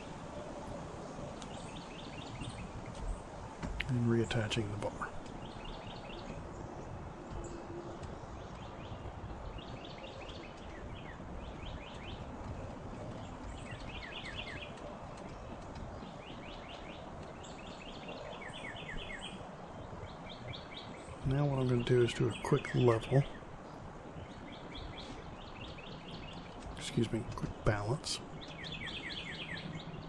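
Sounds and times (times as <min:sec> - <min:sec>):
birds chirping: 0:00.0 - 0:30.0
low background noise: 0:00.0 - 0:30.0.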